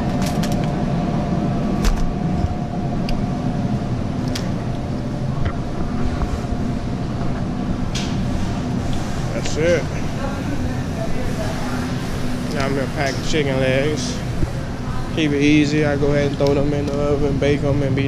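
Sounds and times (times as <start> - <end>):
low rumble and hum: 0.0 - 18.0.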